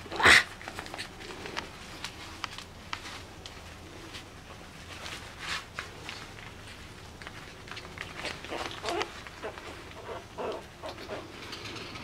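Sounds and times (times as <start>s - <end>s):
puppy paws scuffling on turf: 0.2s - 11.4s.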